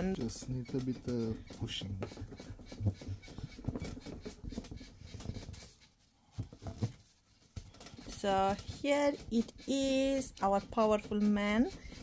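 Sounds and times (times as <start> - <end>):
paper towel scrubbing painted surface: 0.0 - 12.0.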